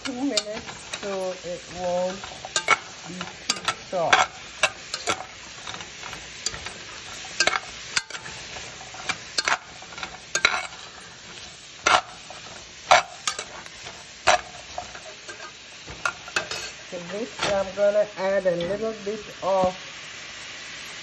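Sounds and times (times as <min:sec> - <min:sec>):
metal spoon scraping a pot: 0:00.0 - 0:19.0
vegetables sizzling in oil: 0:00.0 - 0:21.0.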